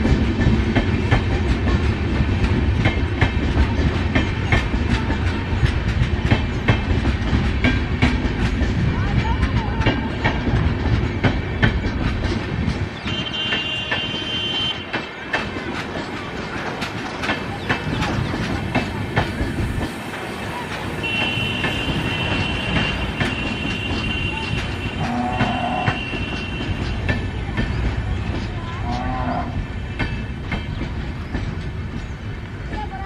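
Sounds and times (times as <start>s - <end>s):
train wheels rumbling on rail: 0.0s - 33.0s
wheels clicking over rail joints: 0.0s - 33.0s.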